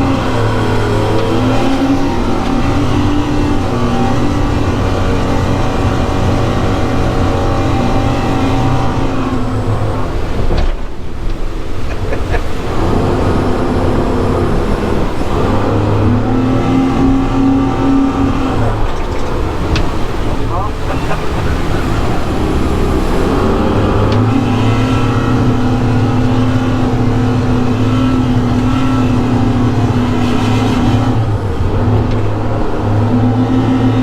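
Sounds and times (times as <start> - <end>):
outboard motors running hard: 0.0 - 34.0.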